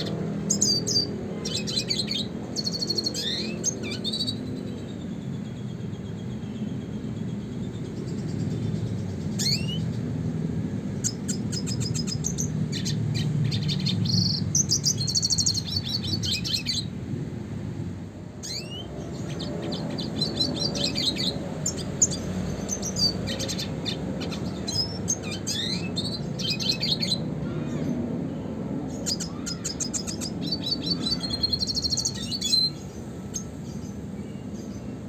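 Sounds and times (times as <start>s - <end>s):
bird singing twittering song: 0.0s - 35.0s.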